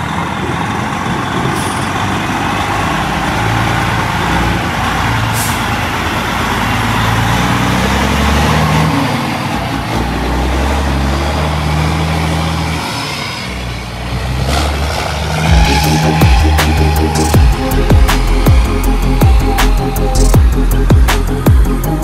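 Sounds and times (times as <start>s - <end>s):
diesel truck engine accelerating: 0.0s - 22.0s.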